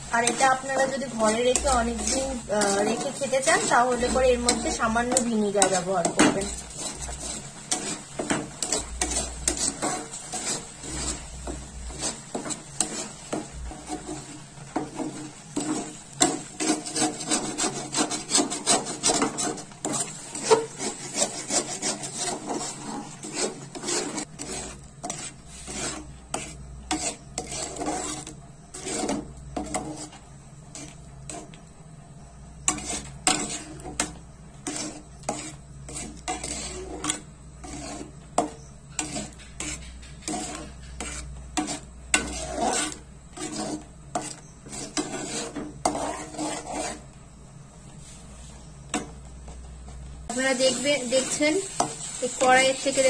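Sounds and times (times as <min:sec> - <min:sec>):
spatula scraping metal pan: 0:00.0 - 0:31.6, 0:32.4 - 0:47.2, 0:50.3 - 0:53.0.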